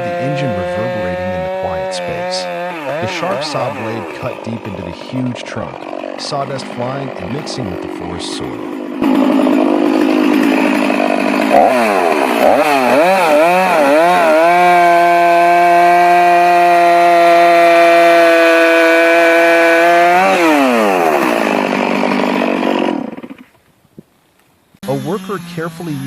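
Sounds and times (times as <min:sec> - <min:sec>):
chainsaw revving and cutting: 0:00.0 - 0:23.6, 0:24.8 - 0:26.0.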